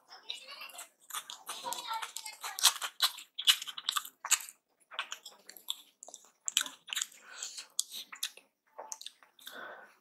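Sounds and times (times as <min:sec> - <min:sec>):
flatbread tearing and chewing: 0:00.8 - 0:09.7.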